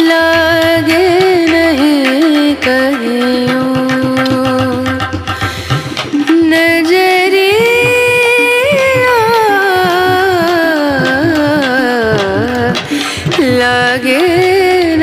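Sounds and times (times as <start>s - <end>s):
steady drum beat: 0.4s - 15.0s.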